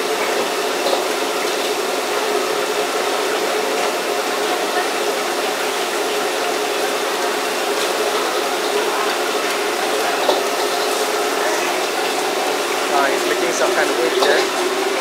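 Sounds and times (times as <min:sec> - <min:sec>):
fish sizzling in hot oil: 0:00.0 - 0:15.0
oil popping: 0:00.0 - 0:15.0.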